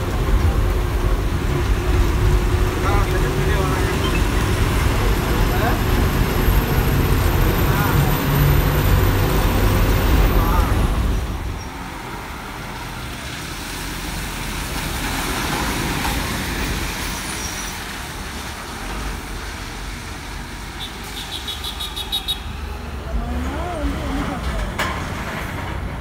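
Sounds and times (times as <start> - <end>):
bus driving past: 0.0 - 26.0
street traffic noise: 0.0 - 26.0.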